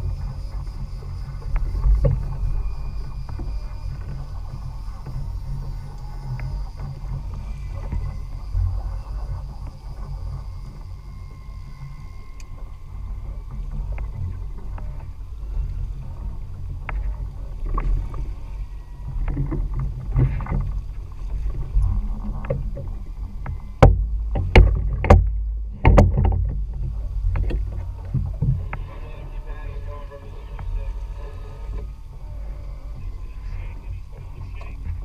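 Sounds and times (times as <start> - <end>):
gear knocking on boat: 0.0 - 29.0
outboard boat engine rumble: 0.0 - 35.0.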